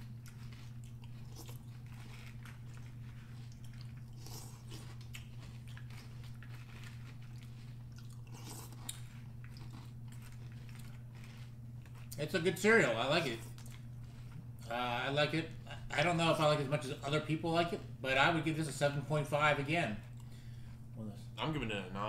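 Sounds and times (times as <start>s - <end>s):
chewing and crunching cereal: 0.0s - 18.3s
steady low hum: 0.0s - 22.0s.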